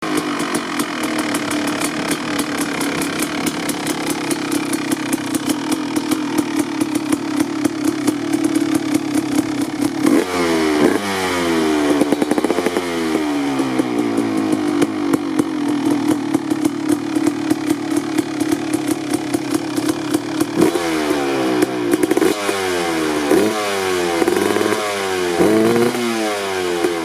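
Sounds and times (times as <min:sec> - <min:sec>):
motocross bike engine idling and revving: 0:00.0 - 0:27.0.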